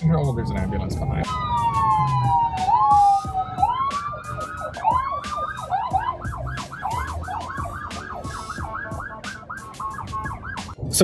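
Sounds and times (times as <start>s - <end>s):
ambulance siren wailing and yelping: 0.0s - 11.0s.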